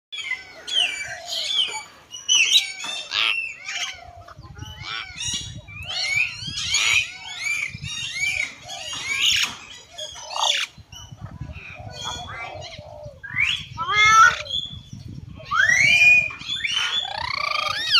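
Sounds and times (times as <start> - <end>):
birds whistling and chirping: 0.2 - 17.9.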